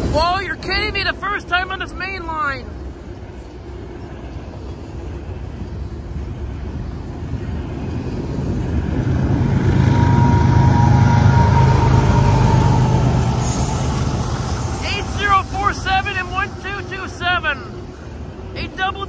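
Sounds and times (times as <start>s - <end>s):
diesel locomotive engines humming: 0.0s - 19.0s
freight train rolling past: 0.0s - 19.0s.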